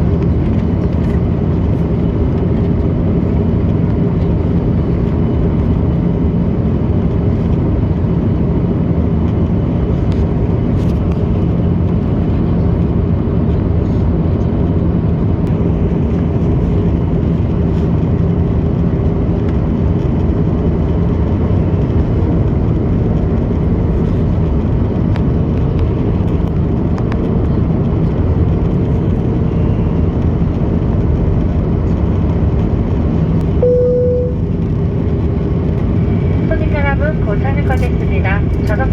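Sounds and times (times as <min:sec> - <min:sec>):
airliner cabin noise: 0:00.0 - 0:38.9.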